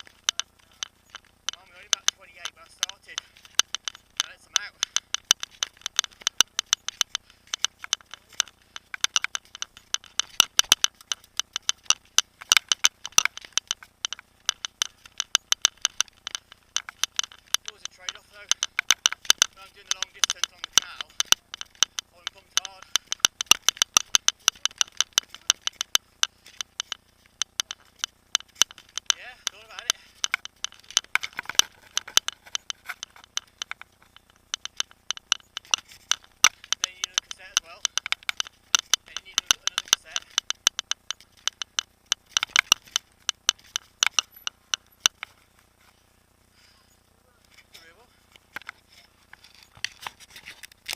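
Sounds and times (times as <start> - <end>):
mountain bike rattling: 0.0 - 50.9.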